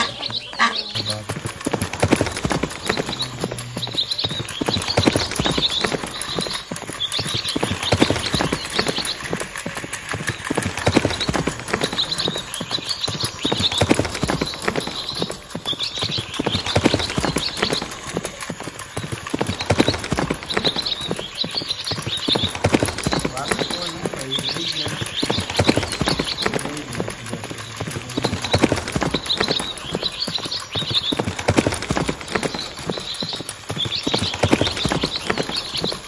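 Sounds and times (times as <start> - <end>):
toy horse hoof clicks: 0.0 - 36.0.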